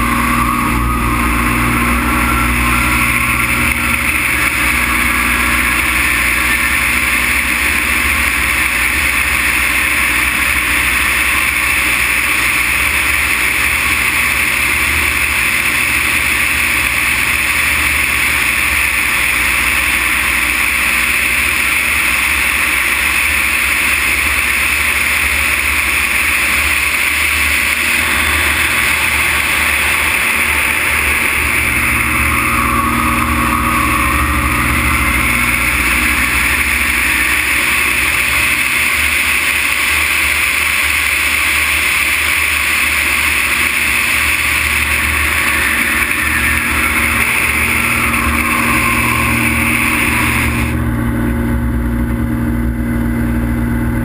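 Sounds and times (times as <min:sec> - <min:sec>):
plane engine and propeller: 0:00.0 - 0:54.0.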